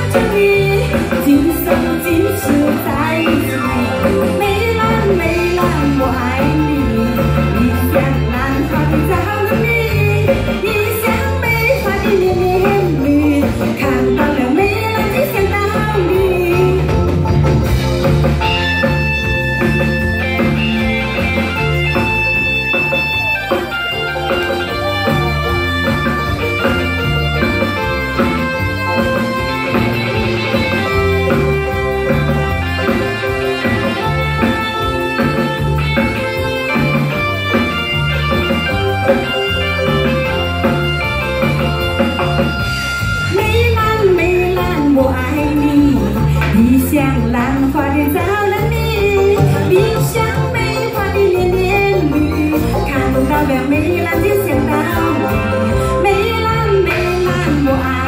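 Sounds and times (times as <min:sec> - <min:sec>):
drum kit: 0:00.0 - 0:58.0
guitar lead: 0:00.0 - 0:58.0
repeating bass line: 0:00.0 - 0:58.0.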